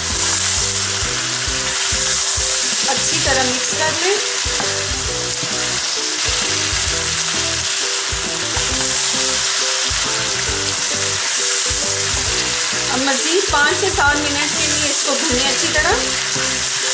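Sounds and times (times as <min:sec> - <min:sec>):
background music with held notes: 0:00.0 - 0:16.9
meat sizzling in a hot pan: 0:00.0 - 0:16.9.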